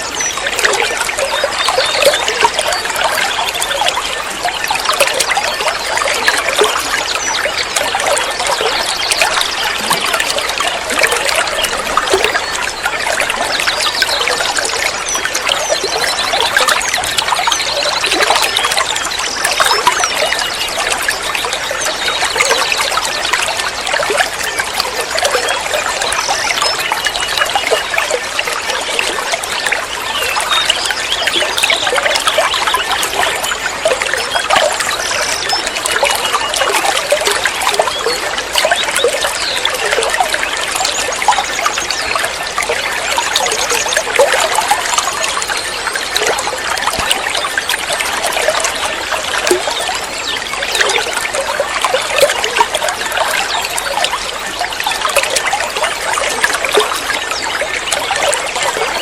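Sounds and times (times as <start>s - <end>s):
water trickling and gurgling: 0.0s - 59.0s.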